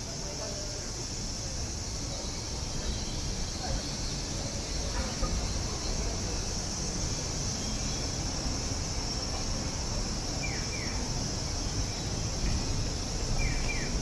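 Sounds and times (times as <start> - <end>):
cicadas droning: 0.0 - 14.0
low city rumble: 0.0 - 14.0
murmur of distant voices: 0.0 - 14.0.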